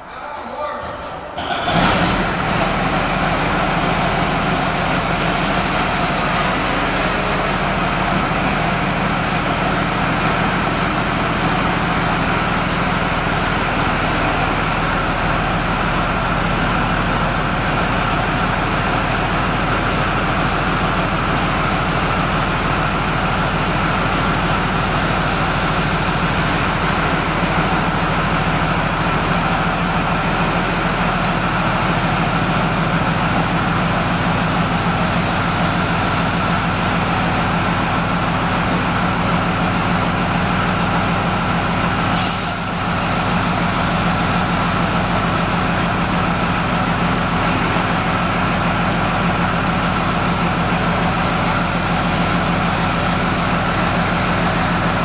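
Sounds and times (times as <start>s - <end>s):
tank diesel engine idling: 0.8s - 55.0s.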